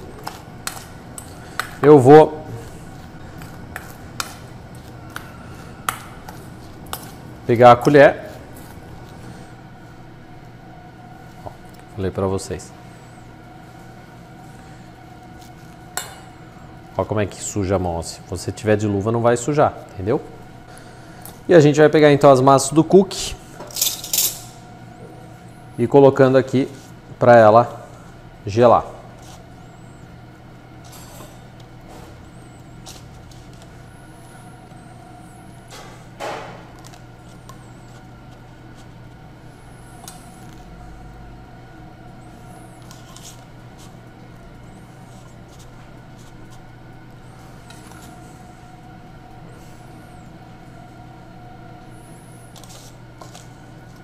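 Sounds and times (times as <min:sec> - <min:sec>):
faint steady whine: 0:00.0 - 0:54.0
steady low hum: 0:00.0 - 0:54.0.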